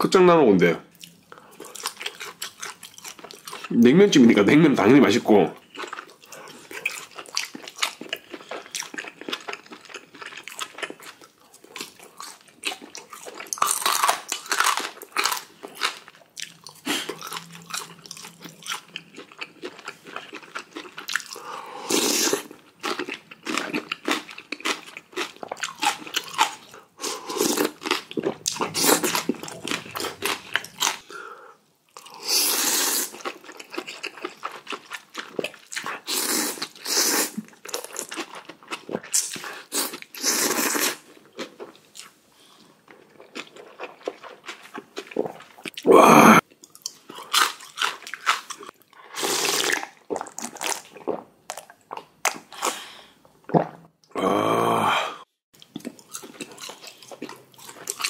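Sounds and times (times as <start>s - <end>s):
person chewing crunchy food: 0.9s - 3.8s, 5.6s - 54.8s, 55.6s - 58.0s.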